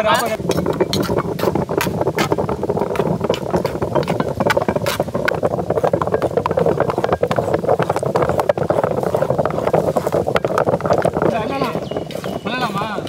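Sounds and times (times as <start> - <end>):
stone grinding on stone: 0.0 - 13.0.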